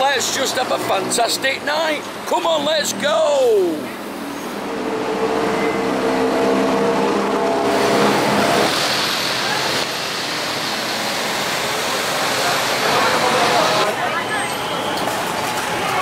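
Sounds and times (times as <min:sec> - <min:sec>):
traffic noise: 0:00.0 - 0:16.0
vehicle engine humming: 0:00.0 - 0:16.0.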